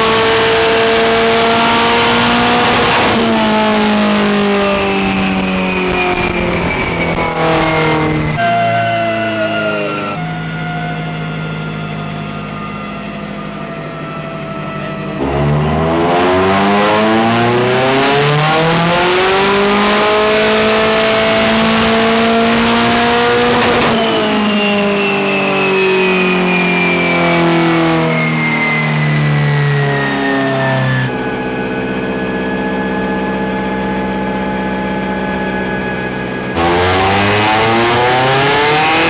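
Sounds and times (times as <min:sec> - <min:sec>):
turbocharged car engine revving: 0:00.0 - 0:13.2, 0:15.2 - 0:31.2, 0:33.7 - 0:39.0
high whine: 0:00.0 - 0:39.0.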